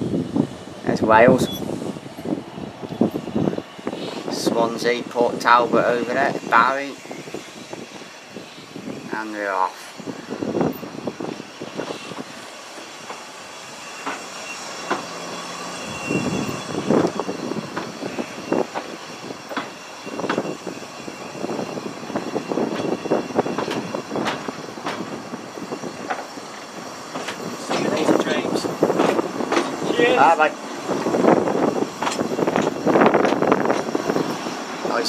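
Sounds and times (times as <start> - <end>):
steam train rumbling: 0.0 - 35.0
wheels clanking on track: 0.7 - 35.0.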